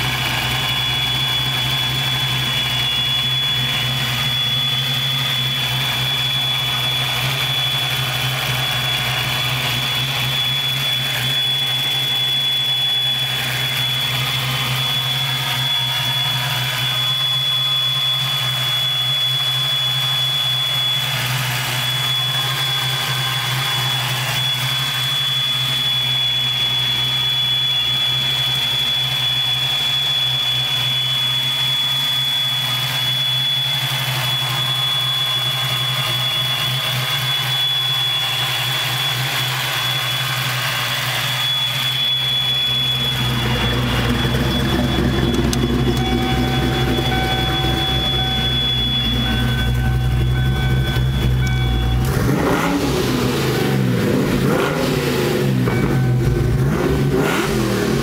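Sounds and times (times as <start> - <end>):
car engine idling: 0.0 - 58.0
supercharger whine: 0.0 - 58.0.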